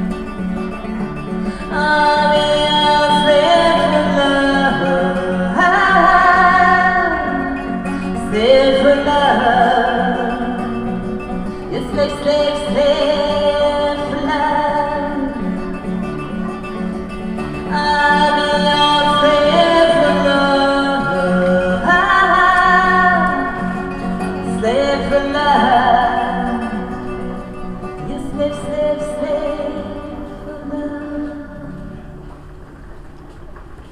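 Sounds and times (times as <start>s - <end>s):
strummed acoustic guitar: 0.0s - 33.9s
woman singing: 1.6s - 11.0s, 11.7s - 15.8s, 17.6s - 32.0s.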